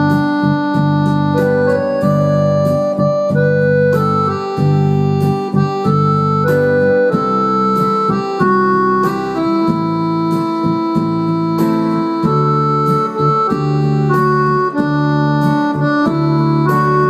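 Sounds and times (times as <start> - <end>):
electronic keyboard melody: 0.0 - 17.0.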